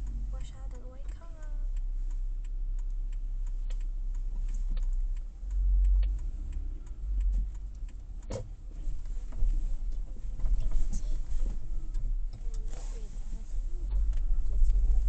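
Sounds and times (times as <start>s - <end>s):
car cabin rumble: 0.0s - 15.0s
turn signal ticking: 0.0s - 15.0s.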